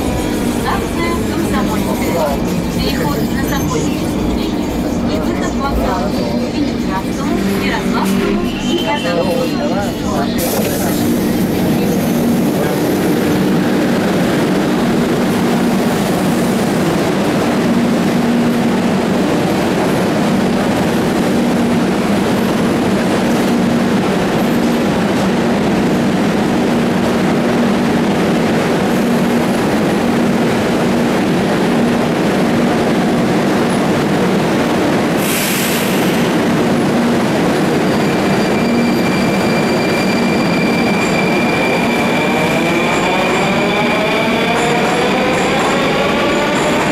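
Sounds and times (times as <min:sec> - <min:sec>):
train rumble: 0:00.0 - 0:46.9.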